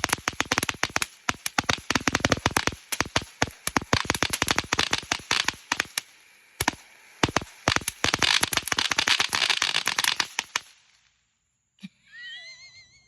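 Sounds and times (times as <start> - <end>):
firework cracks and pops: 0.0 - 11.2.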